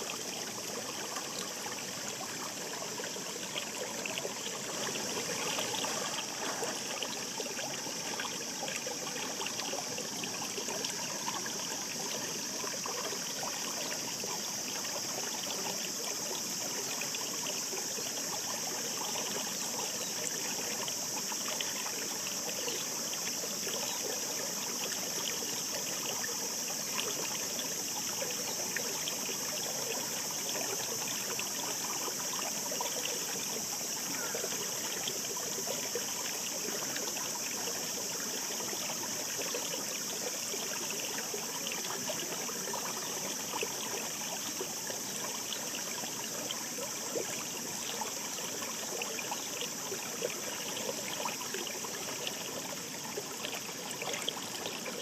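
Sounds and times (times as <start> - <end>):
shallow stream babbling: 0.0 - 55.0.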